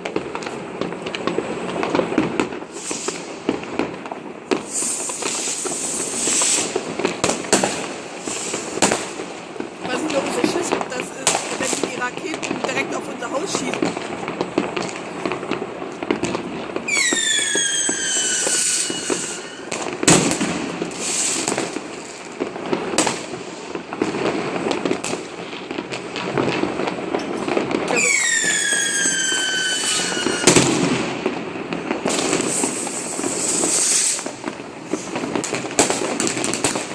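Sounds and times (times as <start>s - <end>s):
firecrackers crackling: 0.0s - 36.9s
firework bangs: 0.0s - 36.9s
whistling fireworks: 0.0s - 36.9s.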